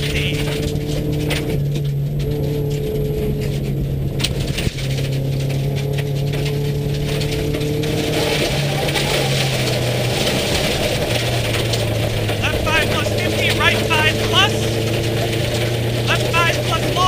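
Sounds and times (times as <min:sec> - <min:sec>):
gravel noise from tyres: 0:00.0 - 0:17.0
rally car engine running hard: 0:00.0 - 0:17.0.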